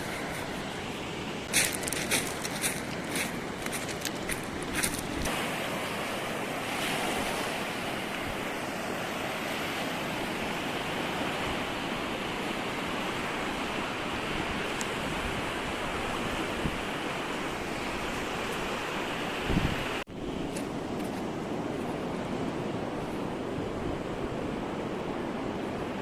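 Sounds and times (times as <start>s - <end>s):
ocean surf on sandy beach: 0.0s - 26.0s.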